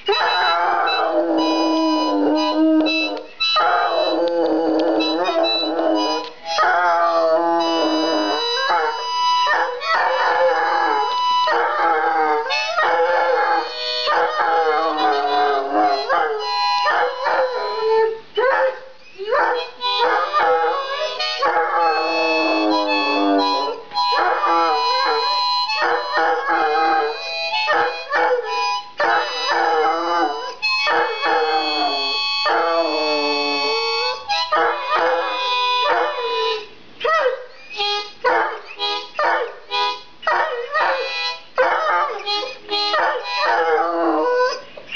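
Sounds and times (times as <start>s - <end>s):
held musical notes: 0.0s - 44.9s
hound dog howling: 0.1s - 37.5s, 40.2s - 44.7s.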